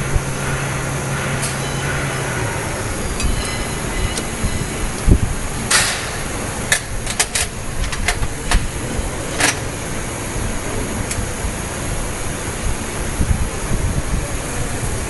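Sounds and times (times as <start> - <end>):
steady loud background rush: 0.0 - 15.0.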